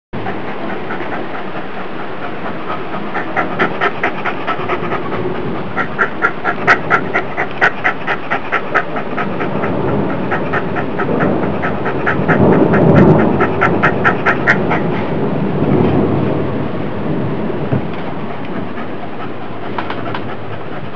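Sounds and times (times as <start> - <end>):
dog panting fast: 0.2 - 15.3, 17.6 - 20.9
low rumble: 0.2 - 20.9.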